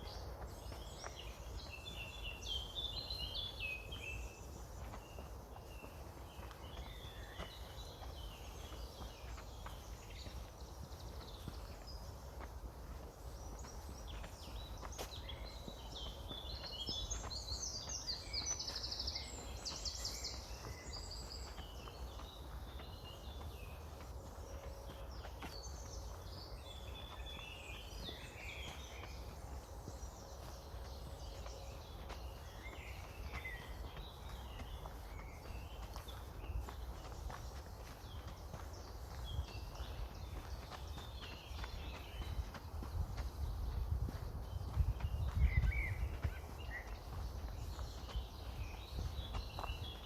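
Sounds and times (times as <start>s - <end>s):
soft footsteps on path: 0.0s - 50.0s
songbirds singing: 0.0s - 50.0s
wind rumble on microphone: 9.9s - 50.0s.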